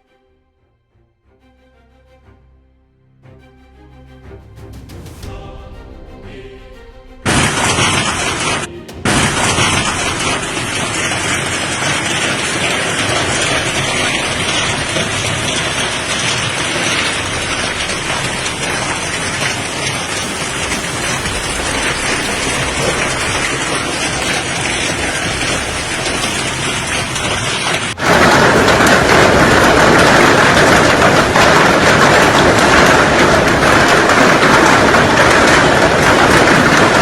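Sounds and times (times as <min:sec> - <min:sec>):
hailstones pelting down: 0:07.3 - 0:37.0.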